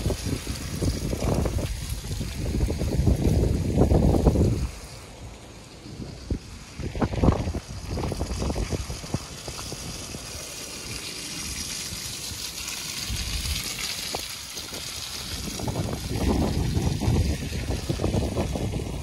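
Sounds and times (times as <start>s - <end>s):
wind buffeting microphone: 0.0s - 11.8s, 12.8s - 19.0s.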